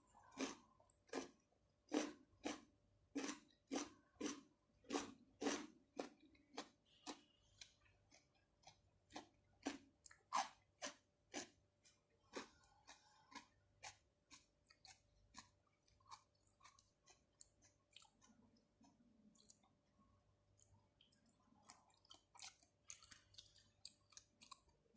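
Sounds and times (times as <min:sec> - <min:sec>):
wet chewing mouth clicks: 0:03.2 - 0:19.7, 0:20.6 - 0:24.8.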